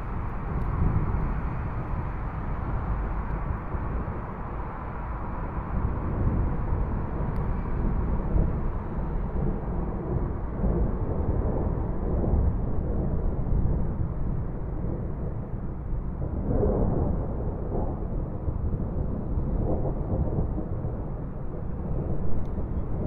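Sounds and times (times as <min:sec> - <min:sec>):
distant rolling thunder: 0:00.0 - 0:23.0.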